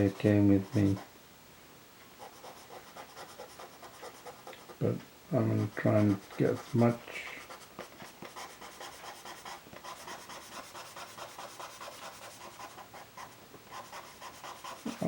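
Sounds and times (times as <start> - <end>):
pencil scratching on paper: 0.5 - 1.1, 2.2 - 4.8, 5.5 - 15.0.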